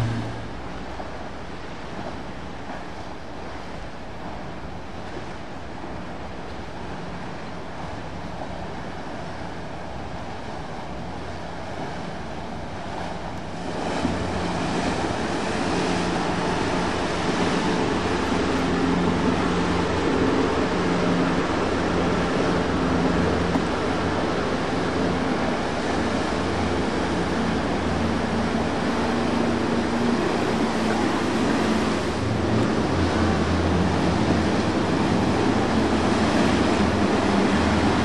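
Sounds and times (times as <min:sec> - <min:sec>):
boat engine hum: 0:00.0 - 0:38.0
water churning and splashing: 0:00.0 - 0:38.0.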